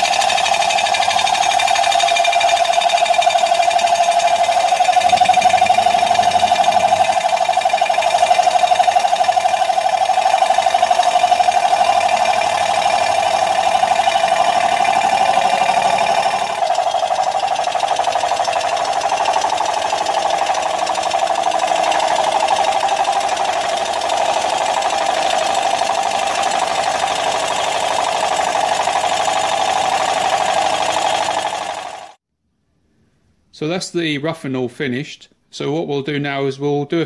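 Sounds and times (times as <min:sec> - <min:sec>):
milling machine grinding metal: 0:00.0 - 0:32.0.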